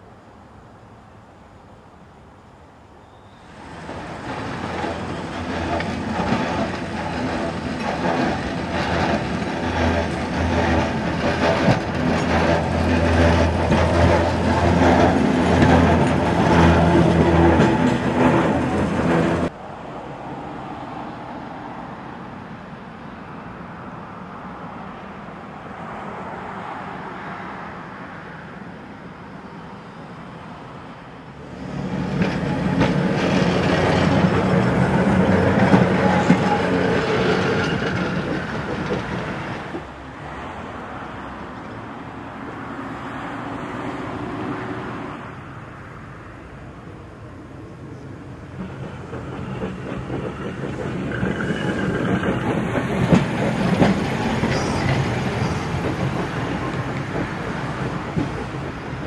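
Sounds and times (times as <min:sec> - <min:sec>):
rail vehicle mechanical hum: 0:00.0 - 0:59.0.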